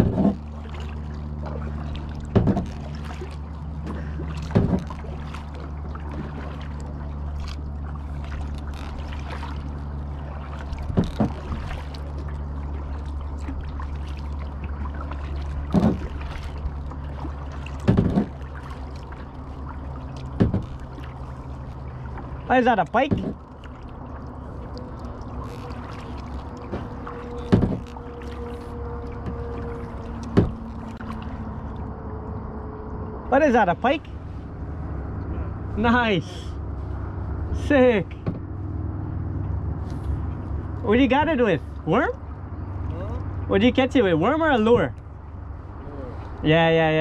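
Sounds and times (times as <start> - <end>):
paddle splashing in water: 0.0 - 46.6
steady low hum: 0.0 - 47.0.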